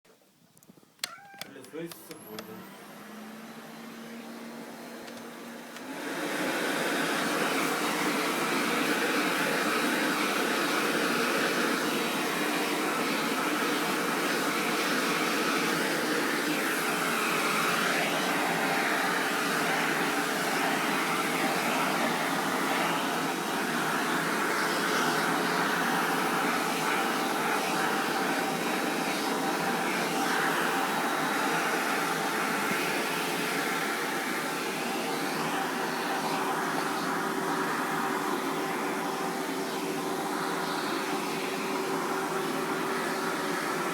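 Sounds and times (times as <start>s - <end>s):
vacuum cleaner running: 1.0s - 43.9s.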